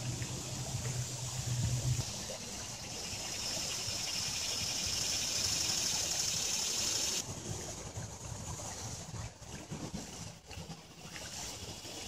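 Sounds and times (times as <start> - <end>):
creek running over stones: 0.0 - 12.0.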